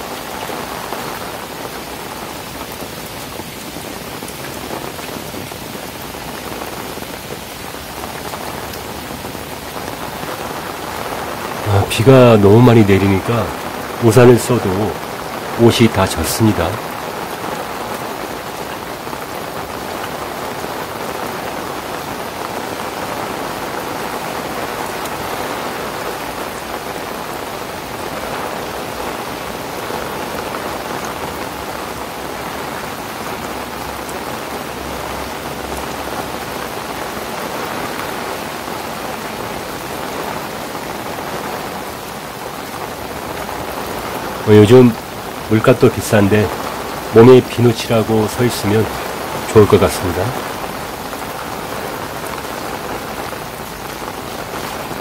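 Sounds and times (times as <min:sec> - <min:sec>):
heavy rain falling: 0:00.0 - 0:55.0
rain drumming on an umbrella: 0:00.0 - 0:55.0.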